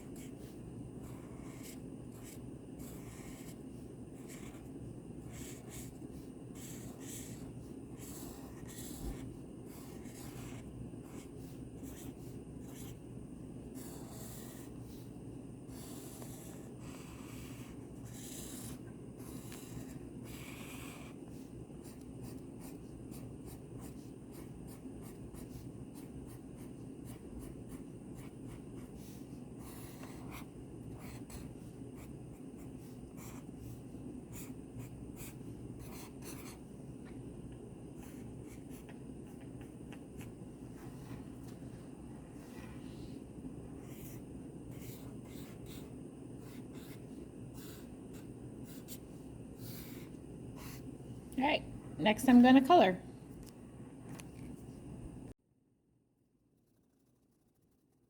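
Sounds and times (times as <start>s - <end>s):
pen scratching on paper: 0.0s - 13.0s, 13.7s - 36.7s, 37.9s - 41.6s, 42.4s - 50.9s
low room hum: 0.0s - 55.4s.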